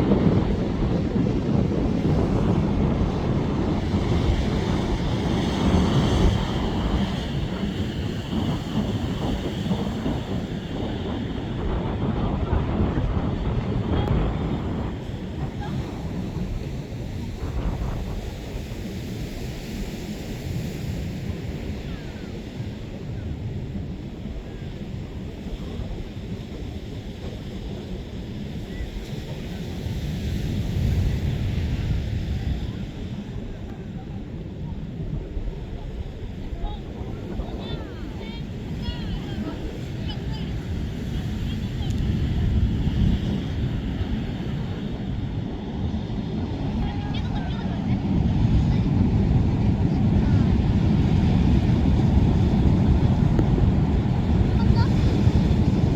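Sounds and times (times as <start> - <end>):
heavy surf rushing: 0.0 - 55.9
waves breaking: 0.0 - 55.9
wind buffeting microphone: 0.0 - 55.9.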